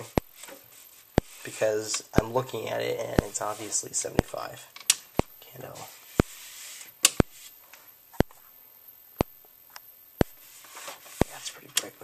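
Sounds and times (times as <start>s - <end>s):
alarm strobe clicking: 0.0s - 10.5s.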